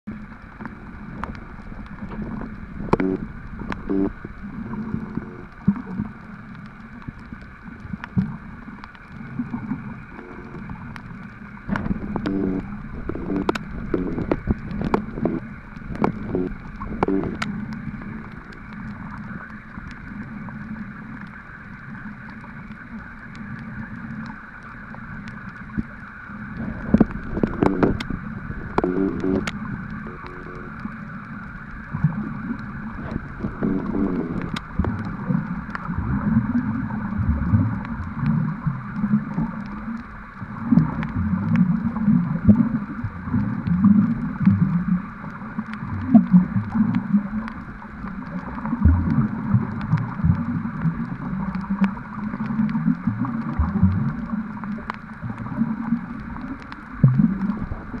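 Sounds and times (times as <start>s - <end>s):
muffled underwater water sloshing: 0.0s - 58.0s
faint clicks: 0.1s - 58.0s.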